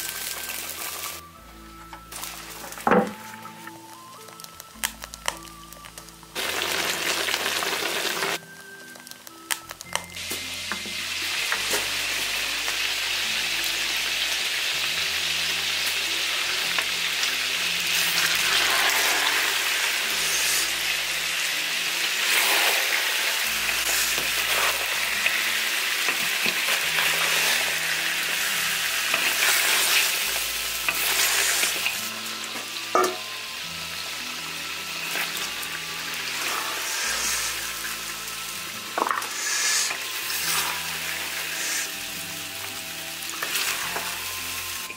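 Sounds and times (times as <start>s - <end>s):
food sizzling in a wok: 0.0s - 1.4s, 2.0s - 44.9s.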